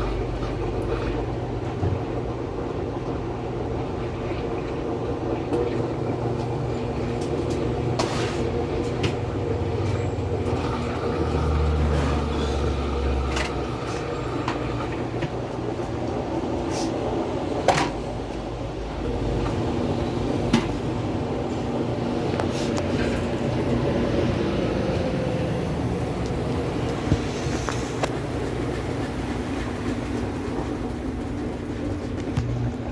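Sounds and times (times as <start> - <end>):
washing machine running: 0.0 - 32.9.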